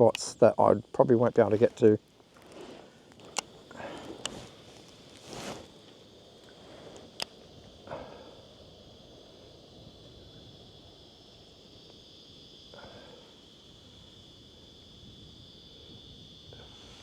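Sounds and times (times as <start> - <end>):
faint insects buzzing: 0.0 - 17.0.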